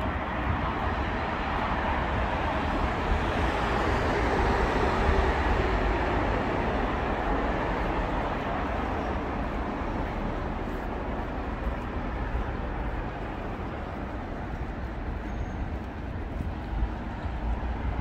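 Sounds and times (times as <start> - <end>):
passing vehicles: 0.0 - 18.0.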